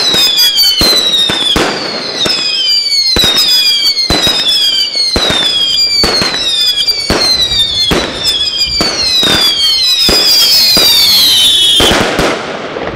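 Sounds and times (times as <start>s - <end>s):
firework bangs: 0.0s - 12.9s
whistling firework shots: 0.0s - 12.9s.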